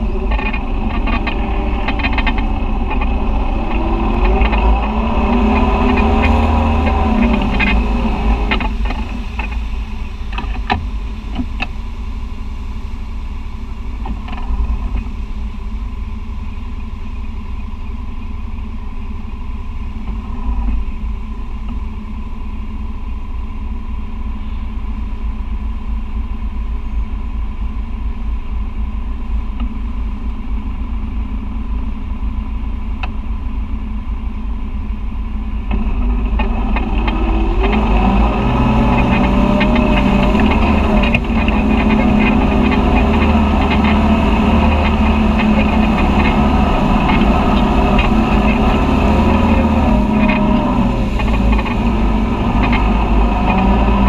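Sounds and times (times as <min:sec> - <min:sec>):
driving through water and mud: 0:00.0 - 0:54.0
vehicle engine running: 0:00.0 - 0:54.0.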